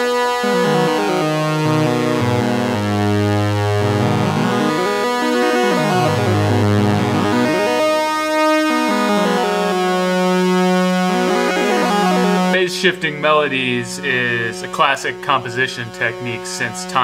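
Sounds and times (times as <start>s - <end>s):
synthesizer melody: 0.0s - 15.2s.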